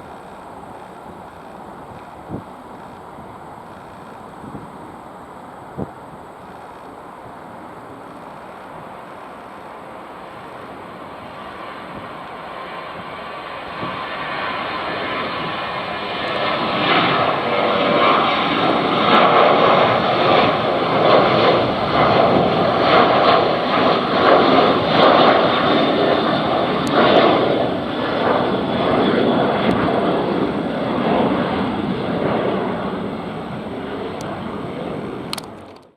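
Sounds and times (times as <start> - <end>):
jet engines roaring by: 0.0 - 35.9.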